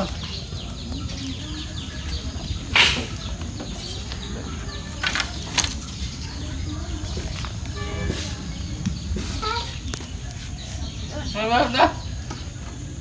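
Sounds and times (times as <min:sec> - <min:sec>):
bamboo poles rustling: 0:00.0 - 0:13.0.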